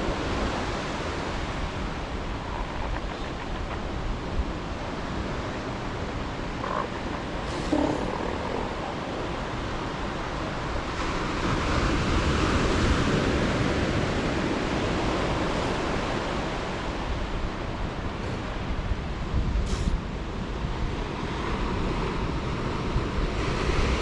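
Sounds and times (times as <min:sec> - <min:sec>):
ocean surf washing ashore: 0:00.0 - 0:24.0
wind rumbling on microphone: 0:00.0 - 0:24.0.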